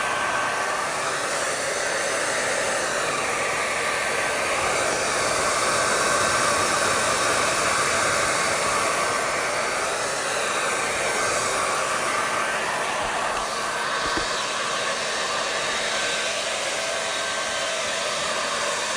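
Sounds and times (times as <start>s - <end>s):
hair dryer running: 0.0s - 18.9s.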